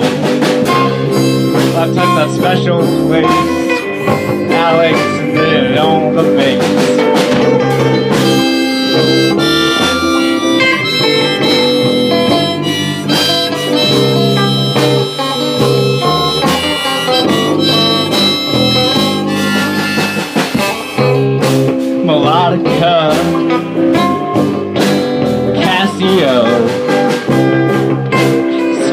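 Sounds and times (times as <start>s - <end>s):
drum kit: 0.0s - 28.9s
guitar: 0.0s - 28.9s
harmonica lead: 0.0s - 28.9s.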